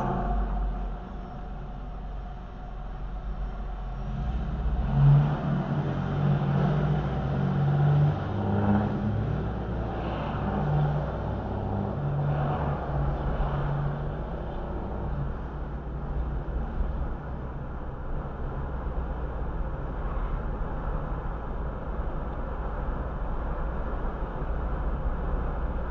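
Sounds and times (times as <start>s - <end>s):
car engine and tyre noise: 0.0s - 25.9s.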